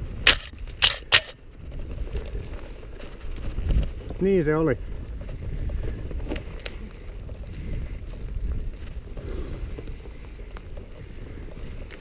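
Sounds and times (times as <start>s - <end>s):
bike clicks and rattles: 0.0s - 12.0s
bike tyre noise: 0.0s - 12.0s
wind on microphone: 0.0s - 12.0s.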